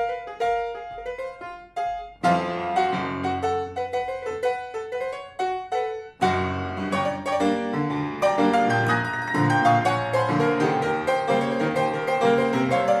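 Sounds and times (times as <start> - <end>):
blues piano playing: 0.0 - 13.0.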